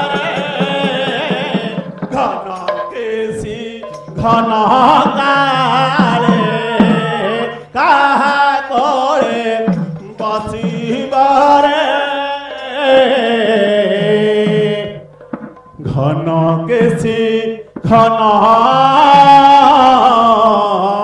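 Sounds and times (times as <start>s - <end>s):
barrel drum: 0.0s - 20.7s
devotional singing: 0.0s - 21.0s.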